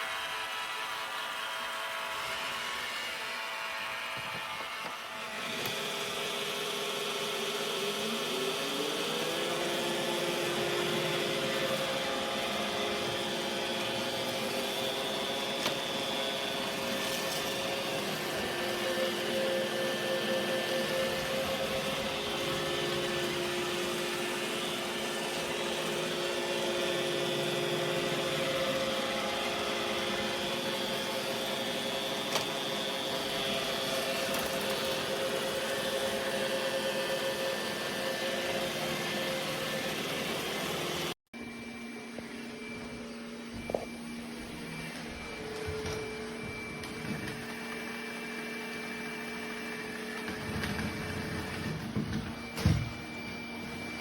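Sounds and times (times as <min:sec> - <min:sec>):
robot vacuum motor whine: 0:00.0 - 0:54.0.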